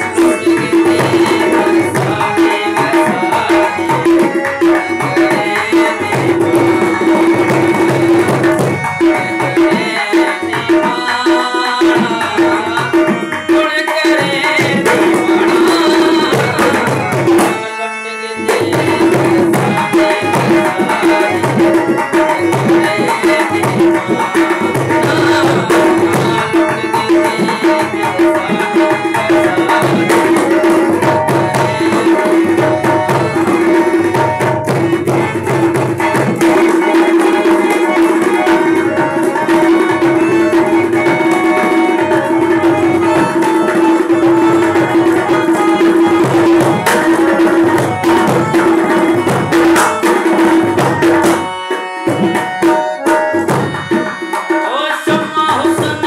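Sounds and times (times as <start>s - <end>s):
hand drum: 0.0s - 17.7s, 18.4s - 56.0s
harmonium melody over drone: 0.0s - 56.0s.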